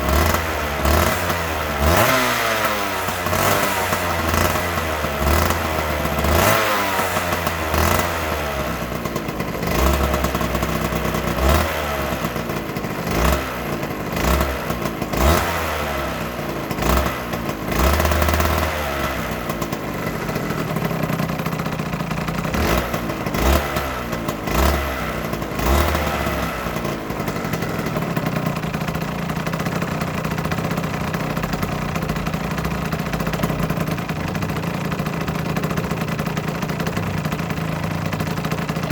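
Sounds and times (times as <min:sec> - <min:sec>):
two-stroke engine revving and idling: 0:00.0 - 0:38.9.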